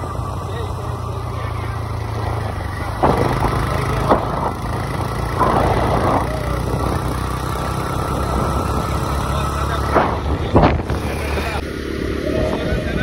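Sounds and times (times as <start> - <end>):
traffic noise swells: 0.0 - 13.0
vehicle engine humming: 0.0 - 13.0.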